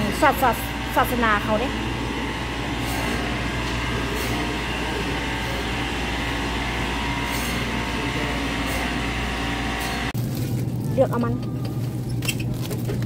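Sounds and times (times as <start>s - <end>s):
refrigeration machinery hum: 0.0s - 13.0s.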